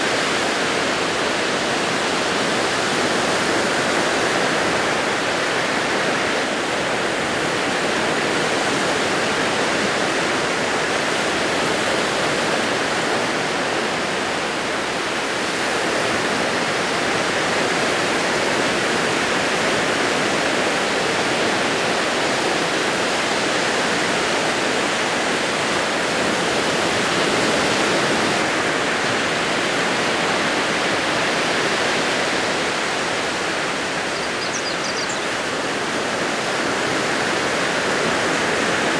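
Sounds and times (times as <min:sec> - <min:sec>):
small waves breaking on beach: 0:00.0 - 0:38.9.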